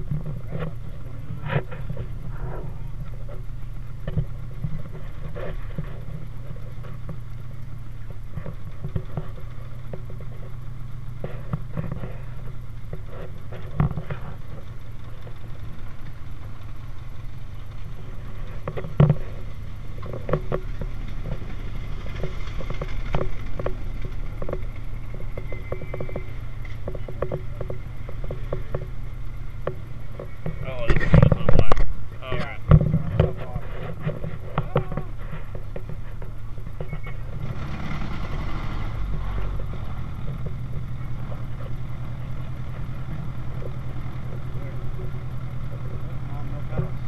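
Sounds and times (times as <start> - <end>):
car engine running: 0.0 - 47.0
sharp knocks and rattles: 0.0 - 47.0.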